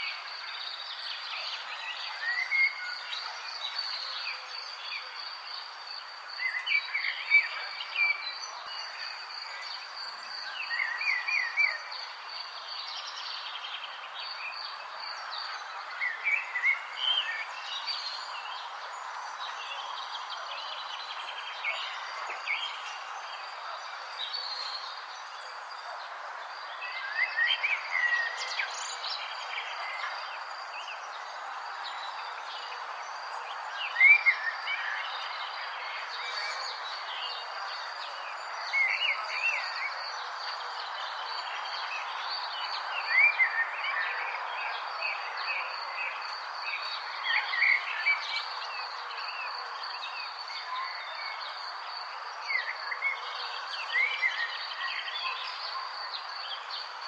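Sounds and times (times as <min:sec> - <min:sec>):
forest birds chirping: 0:00.0 - 0:57.0.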